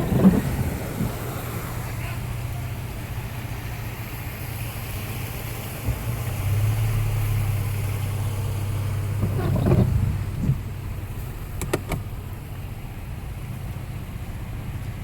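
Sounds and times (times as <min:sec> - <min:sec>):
car engine low hum: 0:00.0 - 0:15.0.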